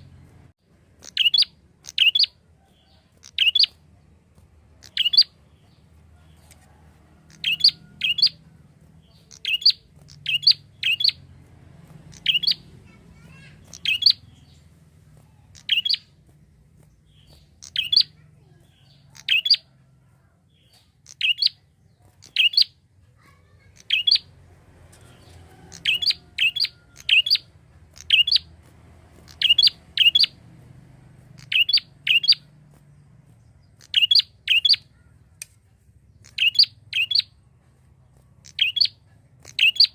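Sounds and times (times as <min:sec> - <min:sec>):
bird high sharp chirps: 0:00.0 - 0:39.9.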